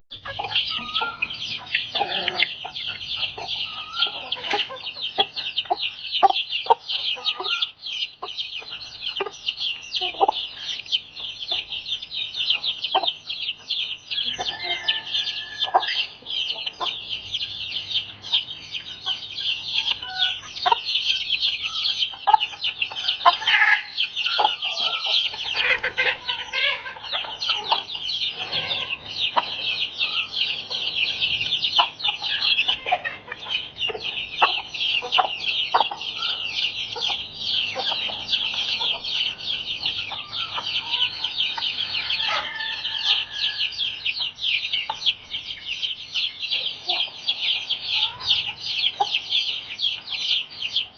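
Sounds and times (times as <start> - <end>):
chickens clucking: 0.0 - 50.9
chicks peeping: 0.1 - 50.9.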